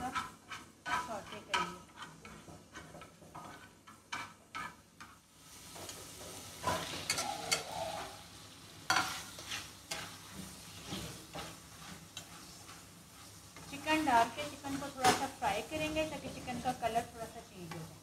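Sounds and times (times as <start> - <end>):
metal spatula scraping and knocking pan: 0.0 - 8.2, 8.8 - 18.0
food sizzling in a frying pan: 0.0 - 18.0.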